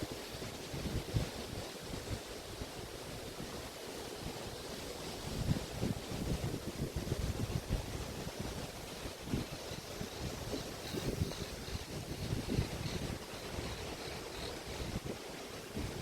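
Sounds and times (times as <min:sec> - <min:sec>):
wind buffeting microphone: 0:00.0 - 0:03.6, 0:05.2 - 0:16.0
waves washing onto beach: 0:00.0 - 0:16.0.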